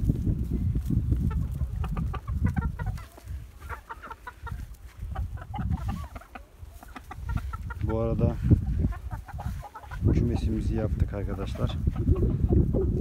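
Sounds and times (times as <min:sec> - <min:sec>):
hens clucking: 0:00.6 - 0:13.0.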